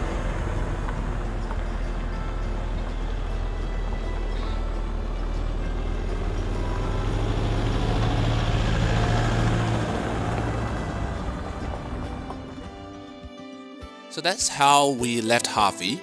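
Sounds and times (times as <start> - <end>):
vehicle driving past on gravel: 0.0 - 13.2.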